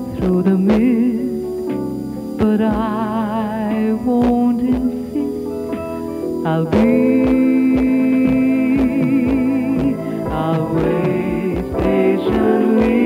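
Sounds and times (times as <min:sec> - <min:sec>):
woman singing with vibrato: 0:00.0 - 0:01.6, 0:02.4 - 0:05.5, 0:06.4 - 0:13.0
instrumental backing with plucked notes: 0:00.0 - 0:13.0.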